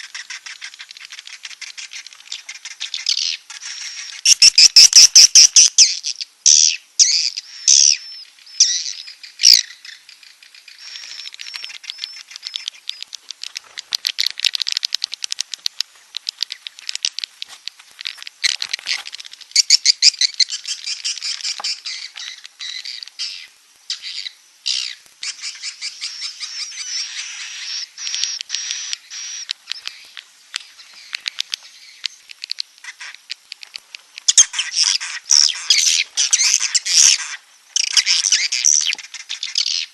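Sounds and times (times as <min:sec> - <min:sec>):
fast clicking trills: 0:00.0 - 0:05.8, 0:10.4 - 0:24.1, 0:24.7 - 0:39.9
swiftlet chirps and twitters: 0:00.0 - 0:17.2, 0:19.3 - 0:33.2, 0:34.2 - 0:39.9.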